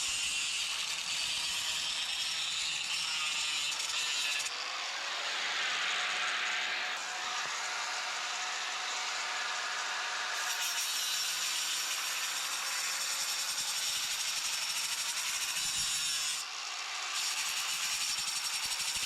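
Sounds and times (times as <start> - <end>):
saw cutting through wood: 0.0 - 19.0.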